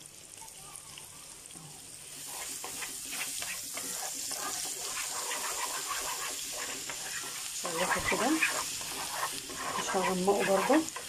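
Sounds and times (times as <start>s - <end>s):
garlic sizzling in a frying pan: 0.0s - 11.0s
wooden spoon scraping a pan: 2.1s - 11.0s.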